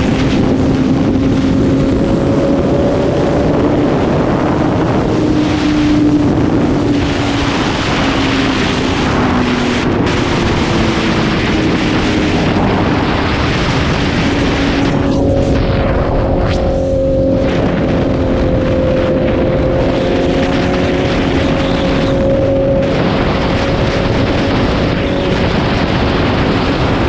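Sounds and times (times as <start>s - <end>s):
motorcycle engine cruising: 0.0s - 27.0s
wind rush on microphone: 0.0s - 27.0s.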